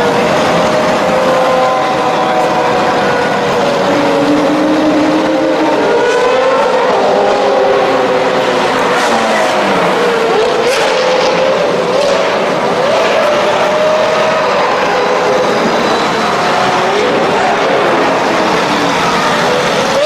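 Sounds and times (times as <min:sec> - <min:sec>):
sports car engines driving past: 0:00.0 - 0:20.0.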